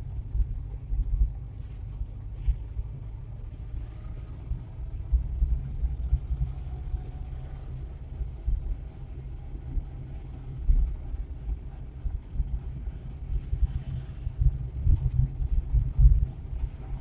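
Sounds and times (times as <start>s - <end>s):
engine and road rumble in cab: 0.0s - 17.0s.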